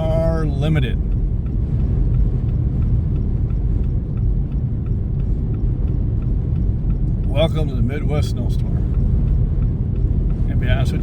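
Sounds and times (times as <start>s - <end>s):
hazard flasher ticking: 0.0s - 11.0s
road and engine rumble: 0.0s - 11.0s.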